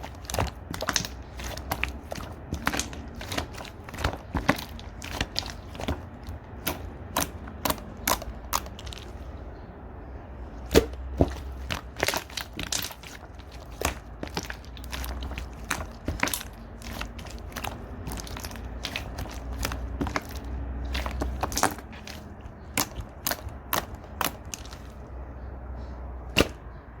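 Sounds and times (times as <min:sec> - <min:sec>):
slime squished by hand: 0:00.0 - 0:09.4, 0:10.6 - 0:25.2, 0:26.2 - 0:26.8.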